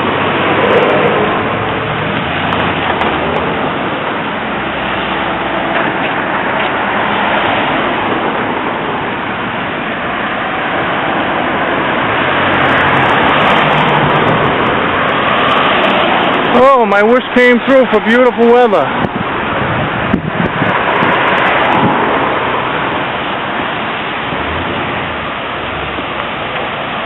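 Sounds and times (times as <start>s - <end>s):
cars going by: 0.0s - 27.0s.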